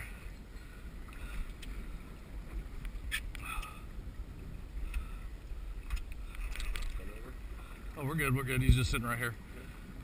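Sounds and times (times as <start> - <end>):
water lapping against kayak hull: 0.0 - 10.0
wind rumble on microphone: 0.0 - 10.0.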